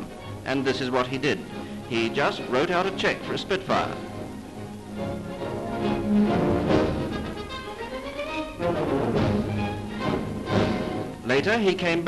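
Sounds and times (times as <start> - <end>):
orchestral music: 0.0 - 12.0.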